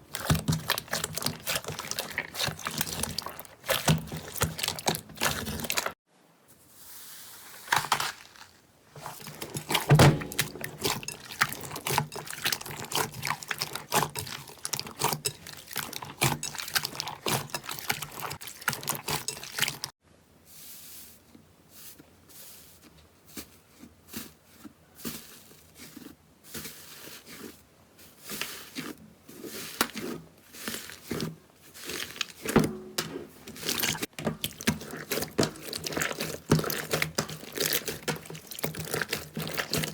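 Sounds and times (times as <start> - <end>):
slime squelching by hand: 0.0 - 6.0, 6.9 - 20.0, 21.7 - 39.9.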